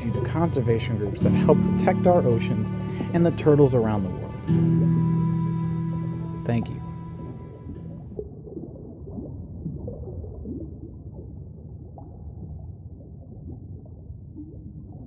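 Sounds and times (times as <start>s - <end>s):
bubbling: 0.0s - 15.0s
low underwater rumble: 0.0s - 15.0s.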